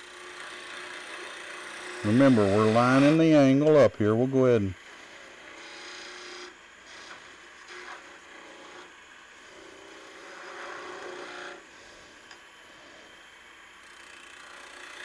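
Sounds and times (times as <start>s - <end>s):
chisel scraping spinning wood: 0.0s - 15.0s.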